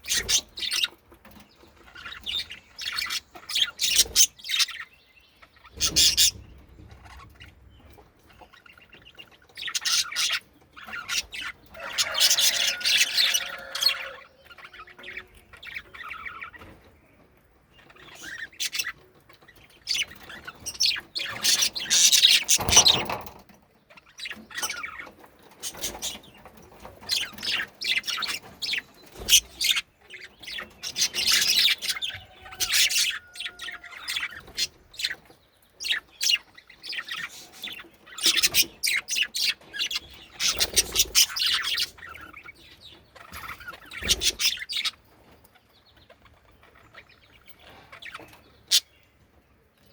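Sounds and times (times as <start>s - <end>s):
budgerigars chirping: 0.0s - 16.9s, 17.7s - 49.9s.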